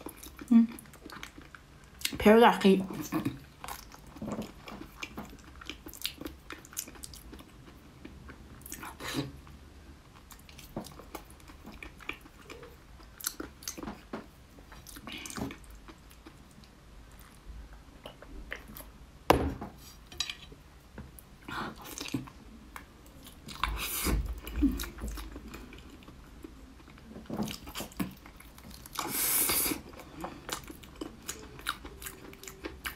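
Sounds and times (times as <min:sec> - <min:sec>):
close-up wet chewing: 0:00.0 - 0:02.2, 0:03.2 - 0:09.4, 0:10.1 - 0:17.4, 0:21.7 - 0:32.9.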